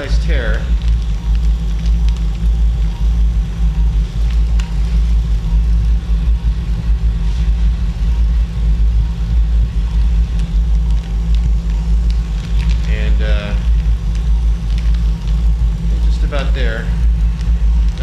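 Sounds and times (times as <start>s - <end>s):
equipment low rumble: 0.0s - 18.0s.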